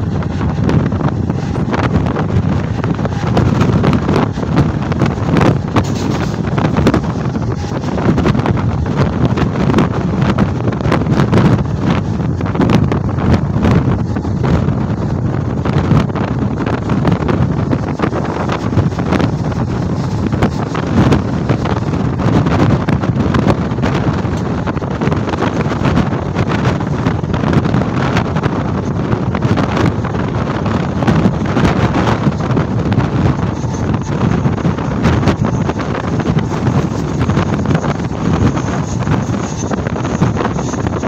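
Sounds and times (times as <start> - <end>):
train running on rails: 0.0 - 41.0
wind buffeting microphone: 0.0 - 41.0.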